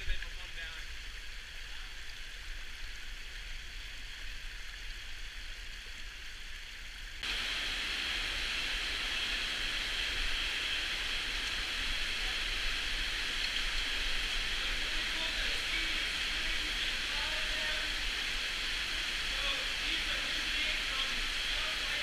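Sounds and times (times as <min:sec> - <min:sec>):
meltwater rushing and dripping: 0:00.0 - 0:22.0.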